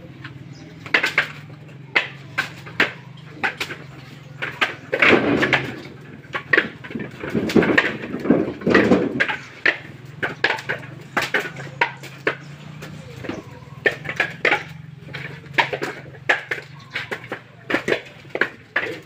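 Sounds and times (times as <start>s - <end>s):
coconuts knocking together: 0.0s - 19.0s.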